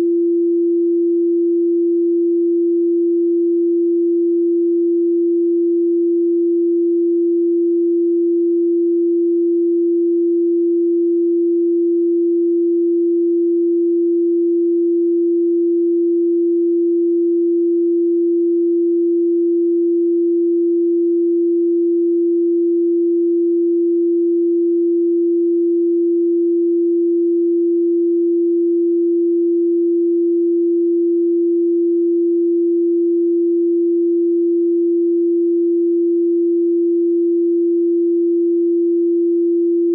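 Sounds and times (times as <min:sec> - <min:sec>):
steady sine tone: 0:00.0 - 0:39.9.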